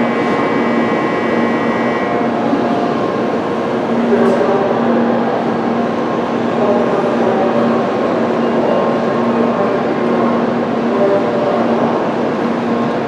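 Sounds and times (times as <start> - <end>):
station rumble: 0.0 - 13.0
train equipment humming: 0.0 - 13.0.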